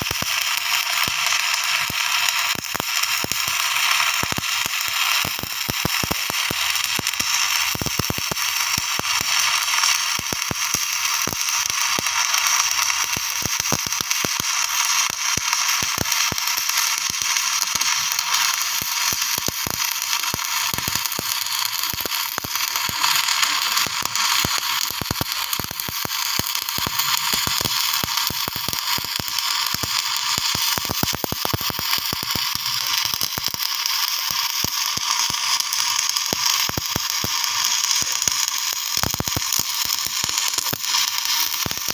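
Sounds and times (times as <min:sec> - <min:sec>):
arc welding crackle: 0:00.0 - 0:41.9.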